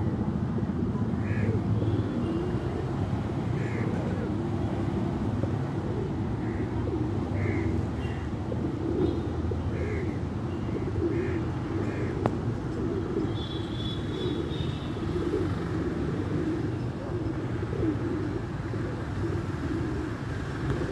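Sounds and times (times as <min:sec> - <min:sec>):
pigeons cooing: 0:00.0 - 0:20.9.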